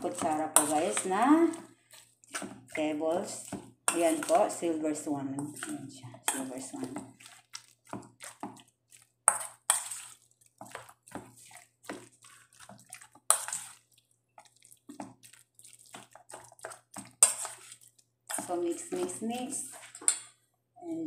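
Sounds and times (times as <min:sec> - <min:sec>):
spoon stirring wet meat: 0:00.0 - 0:21.0.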